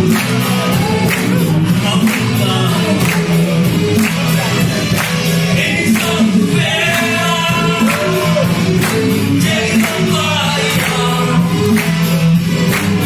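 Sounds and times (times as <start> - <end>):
rock band playing: 0.0 - 13.0
man singing: 0.6 - 3.7, 4.5 - 12.2.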